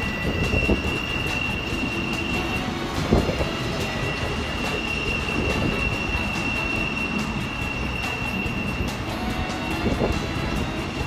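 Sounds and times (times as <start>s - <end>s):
high-pitched wheel squeal: 0.0s - 11.0s
train cars rumbling: 0.0s - 11.0s.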